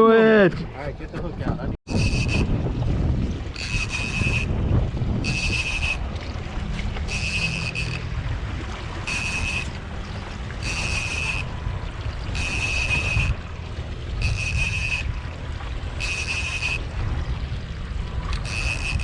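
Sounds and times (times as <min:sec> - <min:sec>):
water noise: 0:00.0 - 0:19.0
wind noise: 0:00.0 - 0:19.0
boat engine running: 0:00.8 - 0:19.0.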